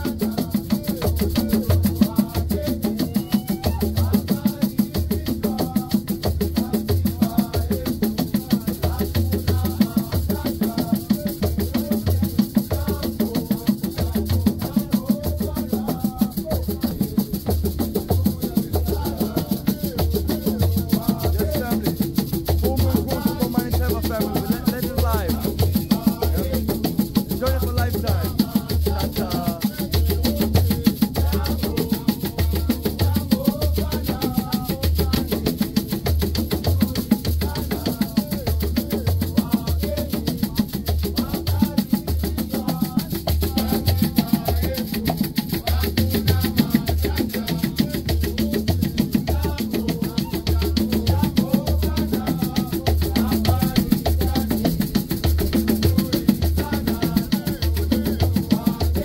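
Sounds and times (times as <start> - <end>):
drums and percussion: 0.0 - 59.0.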